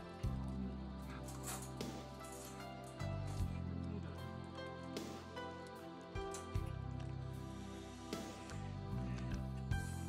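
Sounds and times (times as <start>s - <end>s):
music with sustained low notes: 0.0s - 10.0s.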